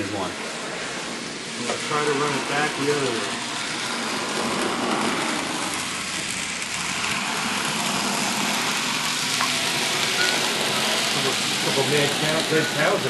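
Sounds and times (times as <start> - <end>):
model train whirring on rails: 0.0 - 13.0.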